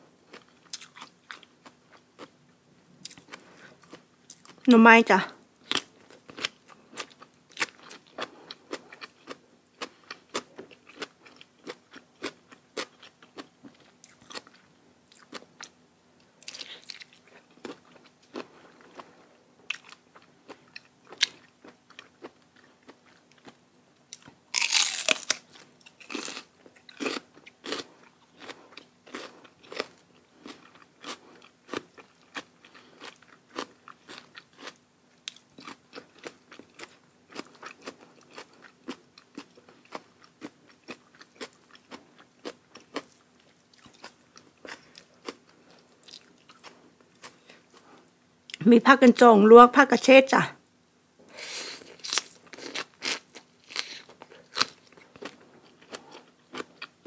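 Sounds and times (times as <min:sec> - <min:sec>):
person chewing crunchy food: 0:00.1 - 0:02.4, 0:03.0 - 0:04.7, 0:05.6 - 0:15.8, 0:16.4 - 0:48.6, 0:51.3 - 0:57.0.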